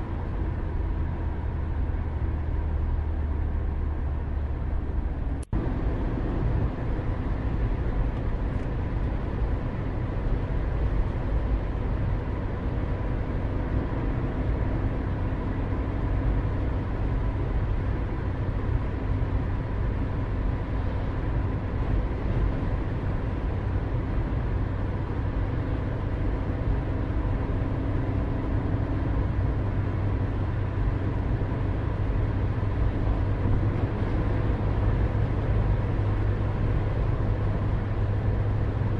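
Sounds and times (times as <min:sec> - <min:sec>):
low background rumble: 0:00.0 - 0:38.9.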